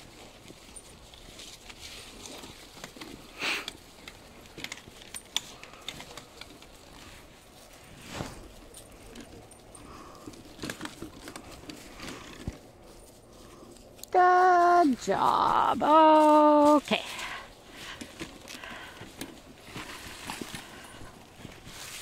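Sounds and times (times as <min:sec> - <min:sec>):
footsteps in dry leaves: 0:00.0 - 0:05.0, 0:05.6 - 0:22.0
light clicks and jingles: 0:00.0 - 0:22.0.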